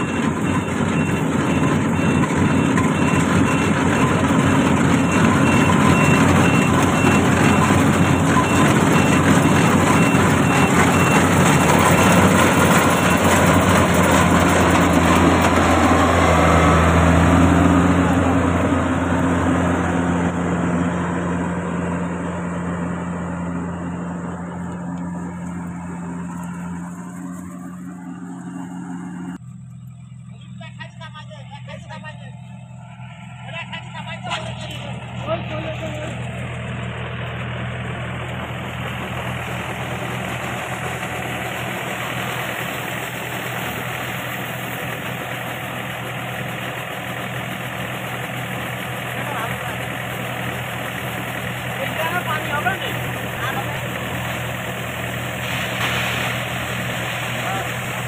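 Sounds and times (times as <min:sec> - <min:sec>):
diesel engine drone: 0:00.0 - 0:58.0
threshing machinery noise: 0:00.0 - 0:58.0.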